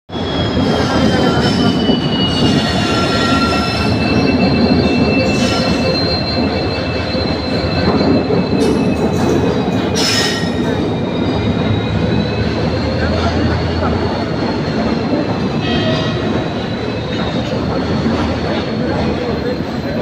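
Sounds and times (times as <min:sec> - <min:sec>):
rumble of wheels and rails: 0:00.1 - 0:20.0
train wheel squeal: 0:00.1 - 0:20.0.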